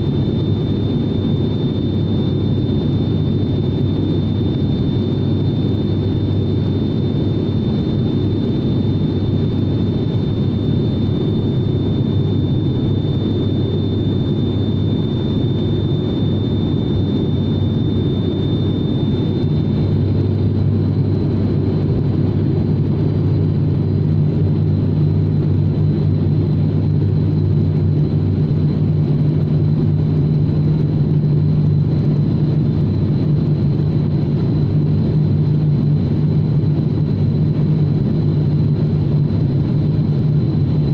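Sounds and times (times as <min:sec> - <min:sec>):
propeller engines droning: 0:00.0 - 0:40.9.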